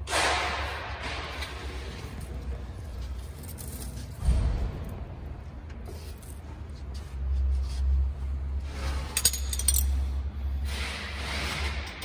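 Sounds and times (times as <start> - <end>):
rumbling handling noise and rustling: 0.0 - 12.0.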